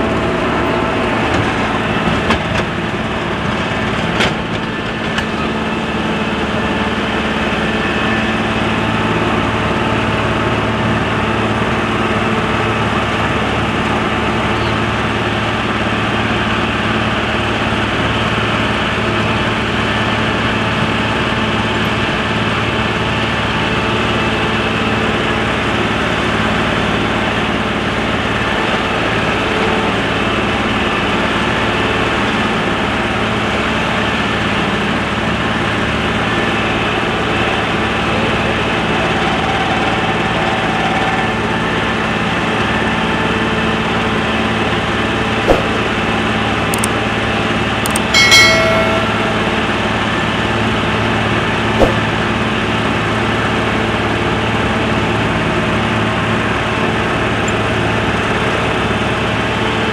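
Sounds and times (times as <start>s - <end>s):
tractor engine running steadily: 0.0s - 59.9s.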